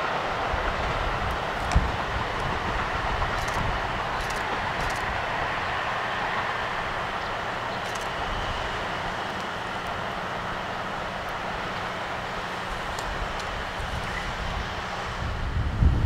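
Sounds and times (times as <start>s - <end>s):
train rumble and rail noise: 0.0s - 16.0s.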